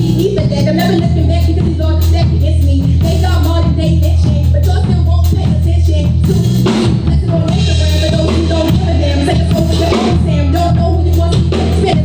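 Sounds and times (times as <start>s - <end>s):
live rock band playing: 0.0s - 12.0s
woman singing: 0.0s - 12.0s.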